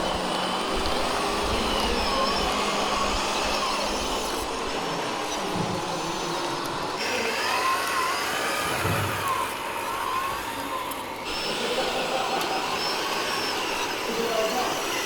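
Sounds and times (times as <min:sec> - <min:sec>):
model truck motors whining: 0:00.0 - 0:15.0.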